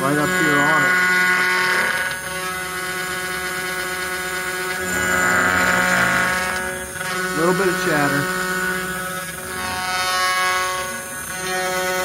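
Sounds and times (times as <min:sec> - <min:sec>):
end mill cutting aluminum: 0:00.0 - 0:12.0
spindle whine: 0:00.0 - 0:12.0.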